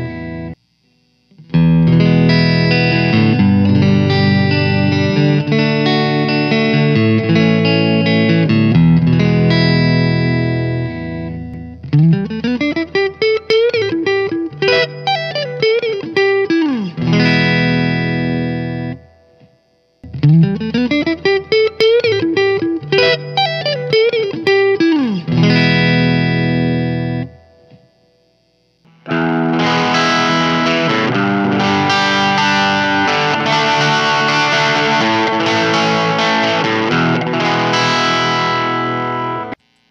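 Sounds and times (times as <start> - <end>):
clean electric guitar phrase: 0.0 - 0.6, 1.3 - 27.8, 28.9 - 39.6
distorted electric guitar: 0.0 - 39.9.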